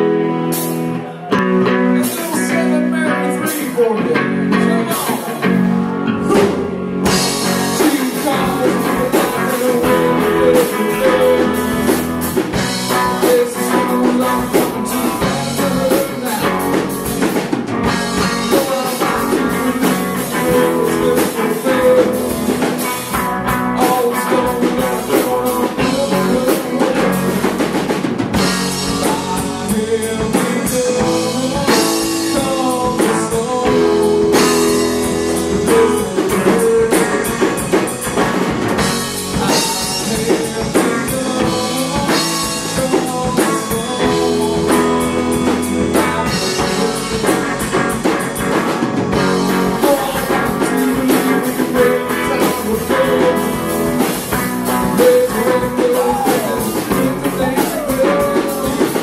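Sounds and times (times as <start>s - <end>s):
bass guitar: 0.0s - 59.0s
electric lead guitar: 0.0s - 59.0s
drum kit with cymbals: 0.4s - 1.2s, 6.3s - 59.0s.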